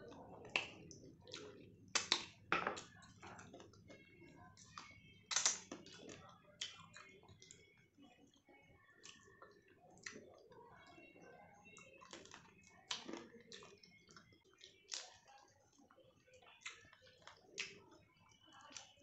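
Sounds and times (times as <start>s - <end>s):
faint chewing: 0.0s - 19.0s.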